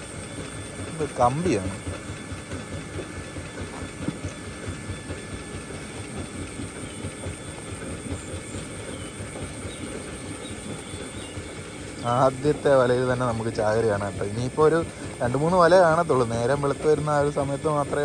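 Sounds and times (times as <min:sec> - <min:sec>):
motor pump discharging water: 0:00.0 - 0:18.0.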